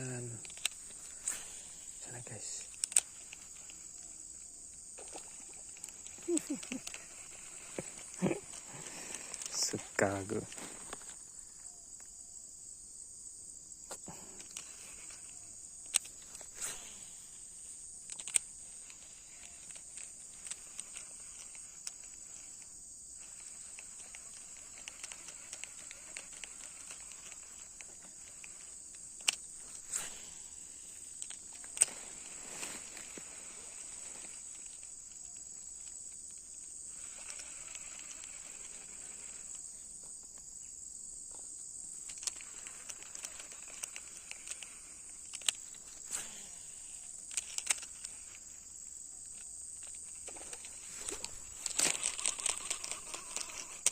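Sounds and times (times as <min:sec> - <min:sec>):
insects droning: 0:00.0 - 0:53.9
sharp clicks: 0:00.3 - 0:11.2, 0:13.8 - 0:17.3, 0:18.0 - 0:39.7, 0:41.3 - 0:48.6, 0:49.2 - 0:53.9.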